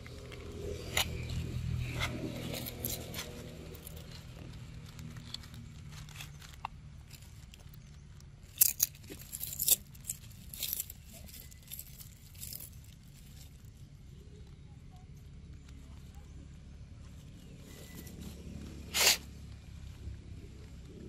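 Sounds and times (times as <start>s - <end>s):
dry leaves crackling: 0.0s - 21.0s.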